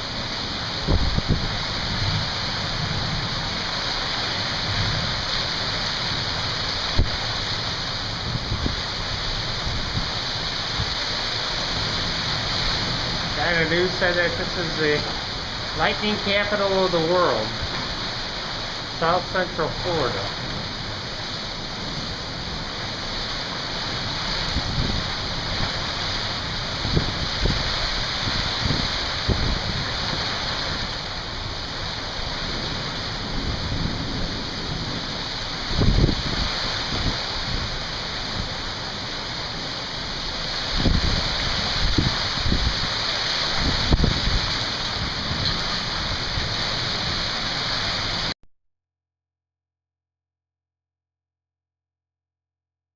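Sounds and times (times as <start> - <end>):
heavy rain pouring: 0.0 - 48.4.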